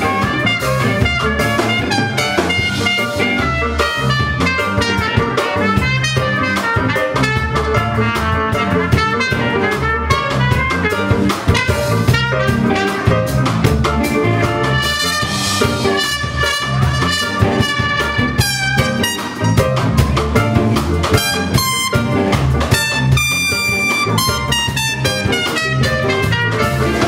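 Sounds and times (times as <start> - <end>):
reggae band playing: 0.0 - 27.0.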